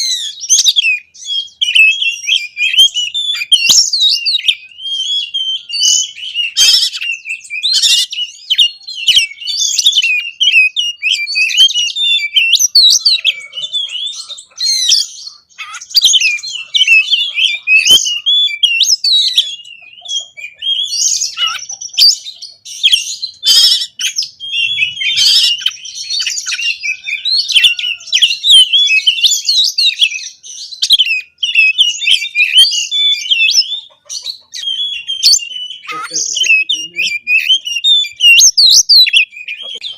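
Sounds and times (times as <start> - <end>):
bird singing varied warble: 0.0 - 39.9.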